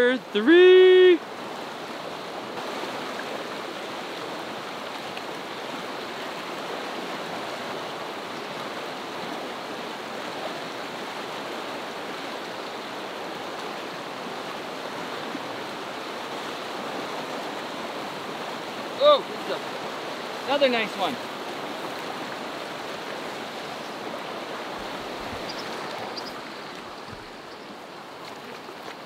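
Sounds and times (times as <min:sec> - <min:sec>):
river rushing over rapids: 0:00.0 - 0:29.0.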